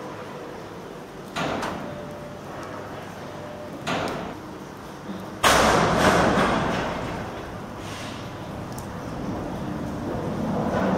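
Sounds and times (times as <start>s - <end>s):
steady mechanical background: 0.0s - 10.9s.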